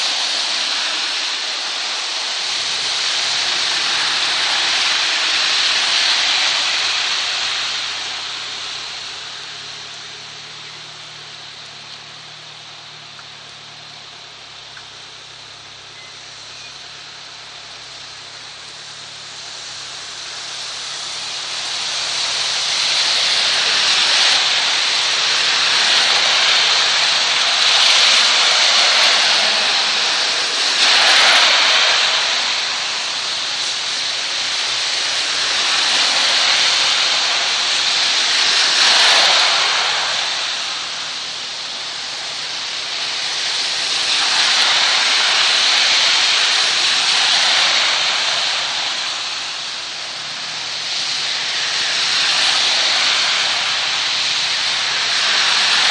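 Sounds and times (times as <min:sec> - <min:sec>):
heavy rain pouring: 0:00.0 - 0:55.9
tyres hissing on wet road: 0:00.0 - 0:55.9.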